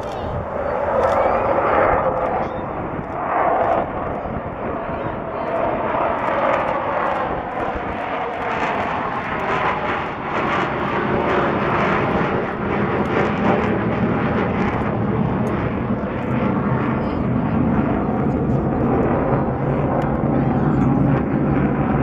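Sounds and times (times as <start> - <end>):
aircraft engines flying past: 0.0 - 22.0.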